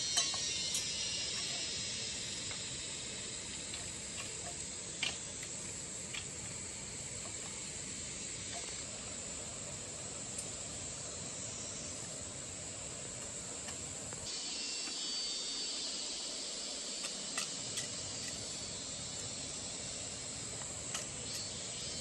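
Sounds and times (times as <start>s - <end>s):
insects chirring: 0.0s - 22.0s
steady hiss: 0.0s - 22.0s.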